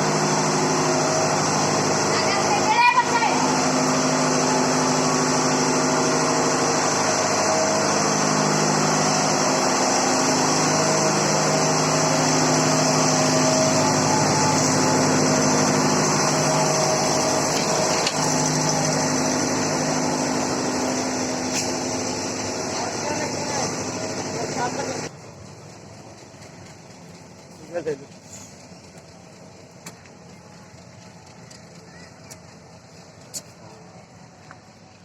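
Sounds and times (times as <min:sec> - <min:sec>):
train running: 0:00.0 - 0:35.0.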